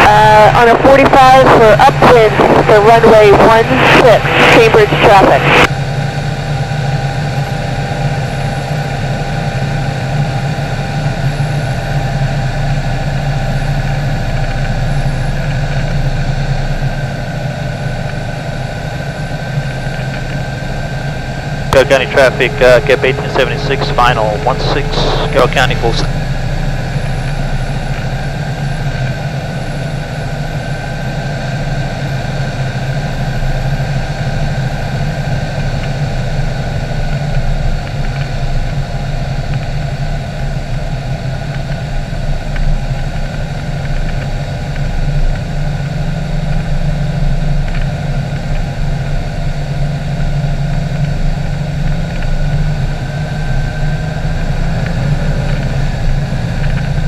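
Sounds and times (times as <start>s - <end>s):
aircraft piston engine and propeller: 0.0s - 57.0s.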